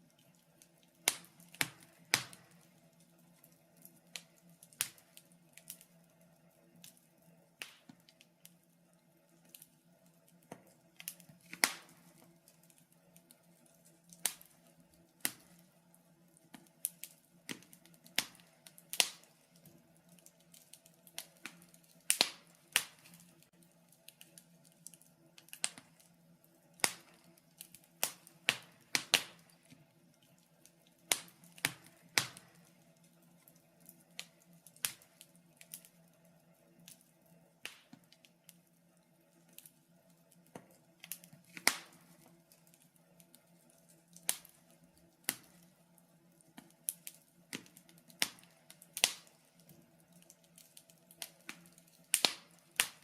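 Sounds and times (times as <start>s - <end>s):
wood fire popping and snapping: 0.0s - 53.0s.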